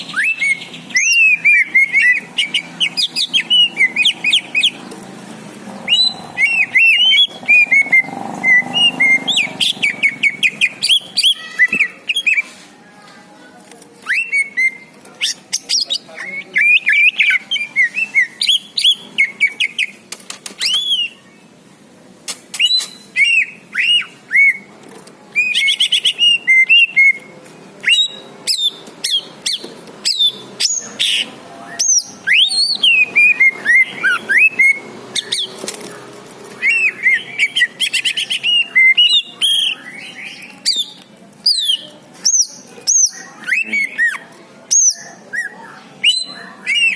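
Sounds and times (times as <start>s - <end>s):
bird singing whistled notes and chirps: 0.0s - 4.8s, 5.9s - 12.4s, 14.0s - 20.0s, 20.6s - 21.3s, 22.6s - 24.7s, 25.3s - 35.7s, 36.6s - 46.9s.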